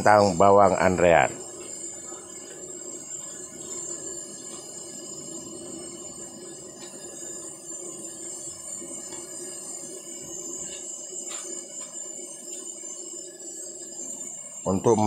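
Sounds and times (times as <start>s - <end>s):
insect chirring: 0.0s - 15.0s
deep-frying sizzle: 0.1s - 15.0s.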